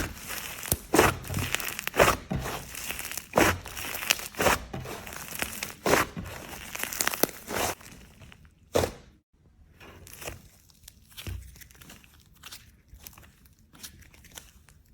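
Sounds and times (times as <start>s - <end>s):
slime squishing by hand: 0.0s - 14.9s.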